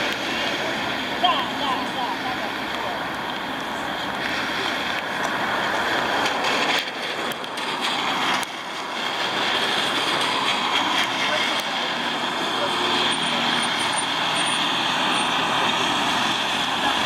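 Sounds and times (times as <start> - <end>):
tyres hissing on wet road: 0.0 - 17.0.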